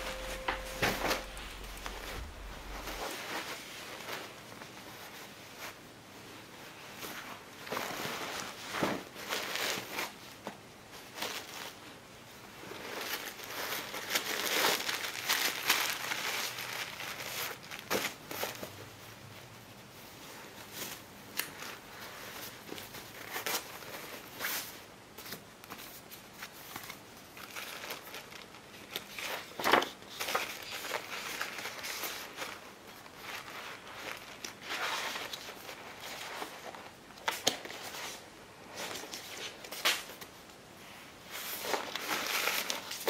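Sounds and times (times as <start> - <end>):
bags rustling and crinkling: 6.4 - 19.0, 20.0 - 40.4, 41.2 - 43.0.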